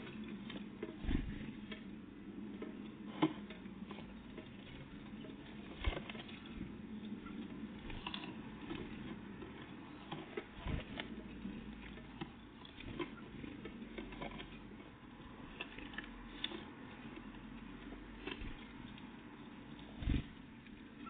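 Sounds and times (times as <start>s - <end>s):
birds pecking and landing: 0.0s - 21.0s.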